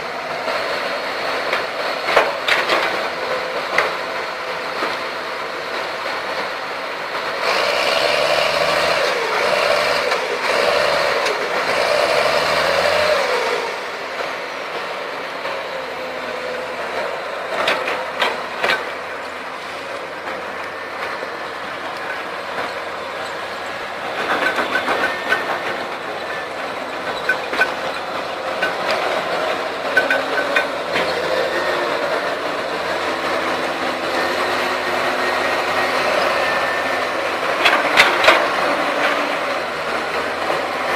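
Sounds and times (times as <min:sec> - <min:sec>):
heavy diesel machinery engines: 0:00.0 - 0:40.9.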